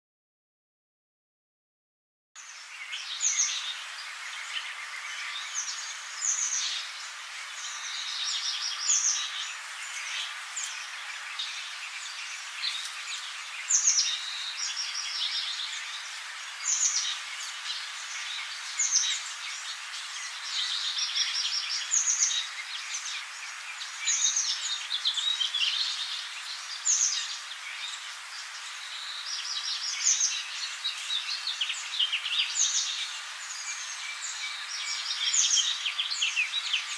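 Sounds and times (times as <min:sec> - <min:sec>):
songbirds singing: 0:02.4 - 0:36.9
steady background hiss: 0:02.4 - 0:36.9.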